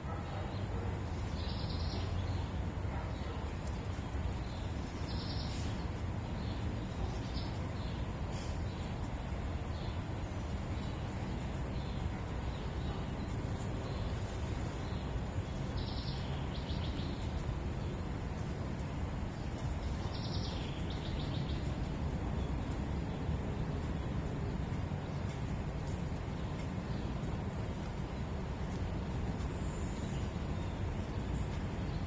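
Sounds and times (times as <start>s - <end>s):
small birds chirping: 0.0s - 32.0s
steady low background noise: 0.0s - 32.0s.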